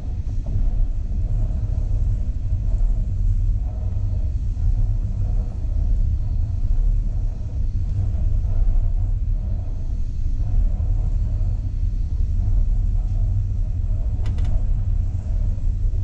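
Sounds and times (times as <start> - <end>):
train carriage rumbling inside: 0.0 - 16.0.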